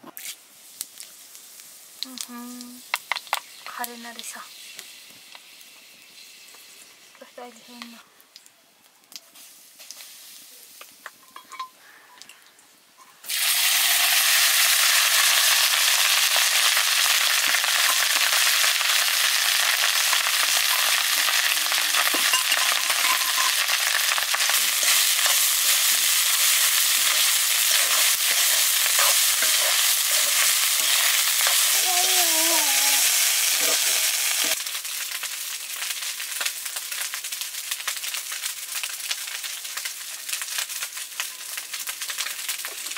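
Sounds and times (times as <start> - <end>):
food sizzling in hot oil: 0.2 - 8.0, 9.0 - 11.7, 13.2 - 42.9.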